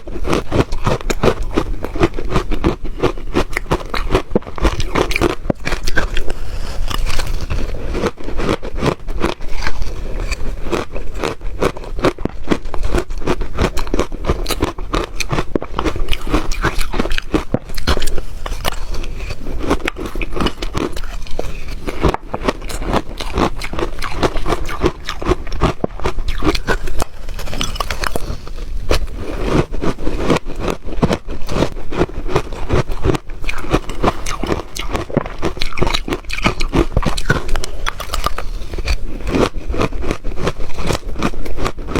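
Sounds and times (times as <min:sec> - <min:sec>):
chewing ice crunches: 0:00.0 - 0:41.9.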